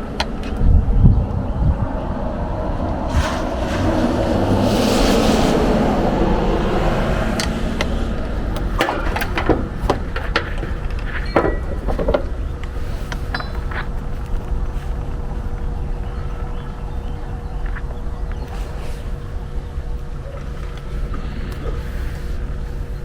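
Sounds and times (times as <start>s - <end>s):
faint steady hum: 0.0s - 23.0s
rushing noise: 0.0s - 23.0s.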